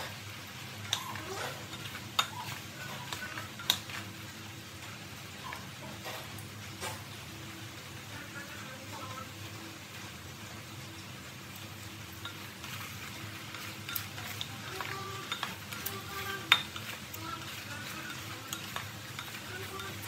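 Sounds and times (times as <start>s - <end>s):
syrup simmering with low sizzle: 0.0s - 20.0s.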